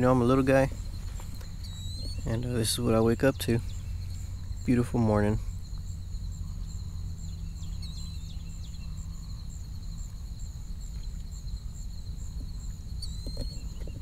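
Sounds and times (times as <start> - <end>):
bird chirps: 0.0 - 14.0
insect chorus: 0.0 - 14.0
low rumble: 0.0 - 14.0.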